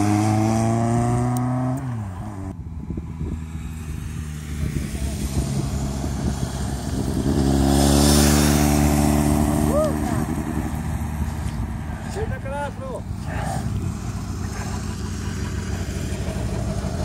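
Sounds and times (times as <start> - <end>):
motorcycle engines passing: 0.0 - 17.0.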